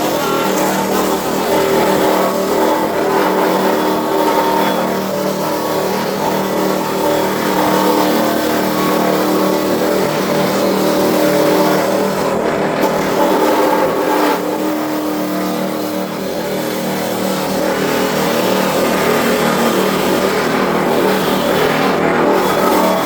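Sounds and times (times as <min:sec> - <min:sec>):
wood crusher humming: 0:00.0 - 0:23.0.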